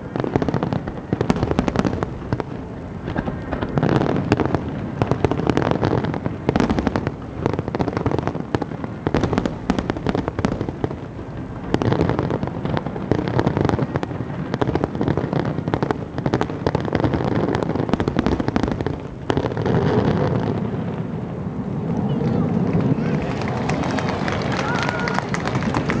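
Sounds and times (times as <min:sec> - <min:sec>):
firework bangs and crackles: 0:00.0 - 0:26.0.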